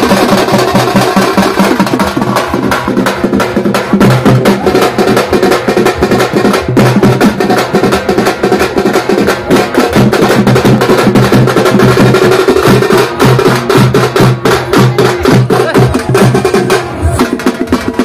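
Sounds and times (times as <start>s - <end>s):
drums beaten fast with sticks: 0.0s - 18.0s.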